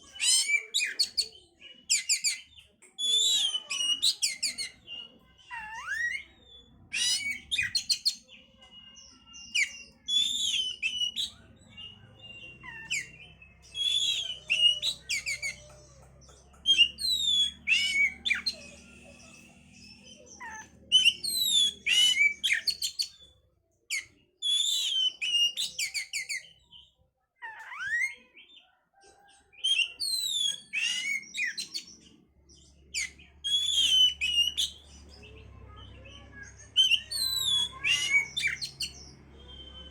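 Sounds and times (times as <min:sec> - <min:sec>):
magpie-robin whistling song: 0:00.0 - 0:16.0, 0:16.6 - 0:23.3, 0:23.9 - 0:26.9, 0:29.6 - 0:39.9.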